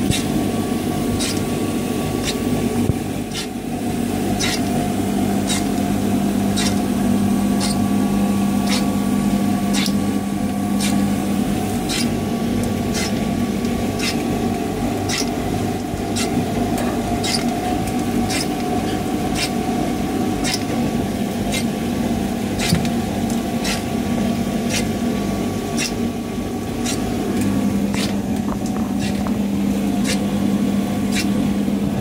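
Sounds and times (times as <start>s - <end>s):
washer-dryer motor hum: 0.0s - 32.0s.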